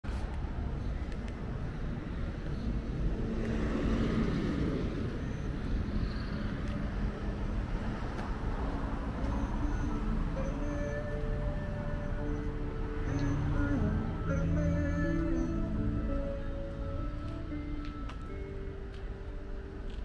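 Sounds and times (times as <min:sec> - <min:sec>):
road traffic rumble: 0:00.0 - 0:20.0
vehicle engine hum: 0:00.1 - 0:20.0.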